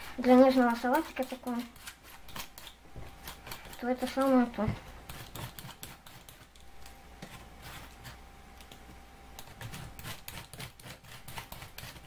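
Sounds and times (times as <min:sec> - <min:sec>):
shredder rasping cabbage: 0:00.0 - 0:06.6, 0:07.2 - 0:08.3, 0:09.4 - 0:12.0.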